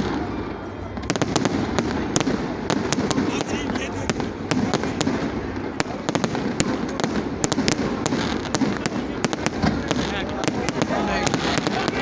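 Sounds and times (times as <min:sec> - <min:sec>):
distant firework bangs: 0:00.0 - 0:12.0
fireworks cracking and popping: 0:01.0 - 0:12.0.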